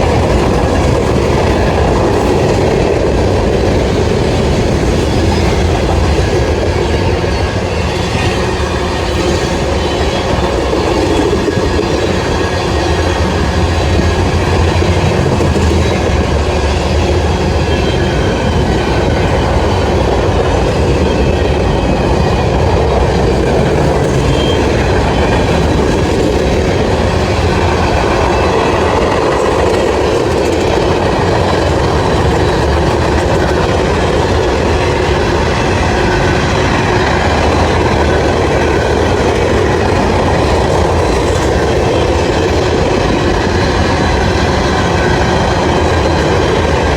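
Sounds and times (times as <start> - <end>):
railroad cars rolling past: 0.0 - 46.9
wheels clacking over rail joints: 0.0 - 46.9.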